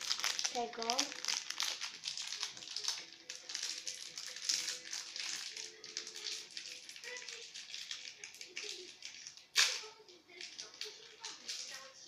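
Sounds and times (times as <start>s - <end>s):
candy wrapper crinkling: 0.0s - 12.0s
faint television music: 0.0s - 12.0s.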